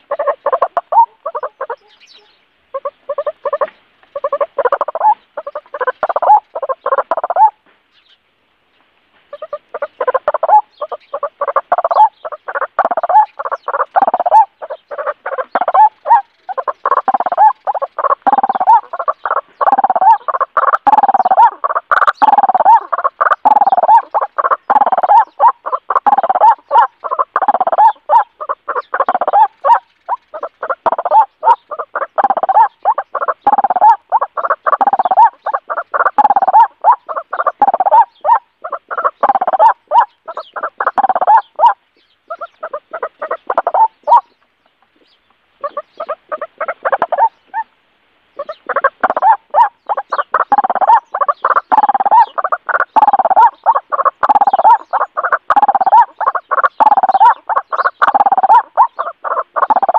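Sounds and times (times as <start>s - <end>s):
pulsed fowl-like bird calls: 0.0s - 8.1s, 9.2s - 59.9s.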